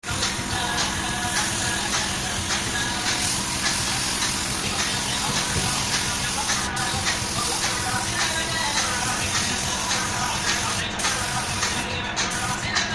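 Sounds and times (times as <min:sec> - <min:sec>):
paint spray gun hissing: 0:00.0 - 0:12.6
background music with beat: 0:00.0 - 0:12.9.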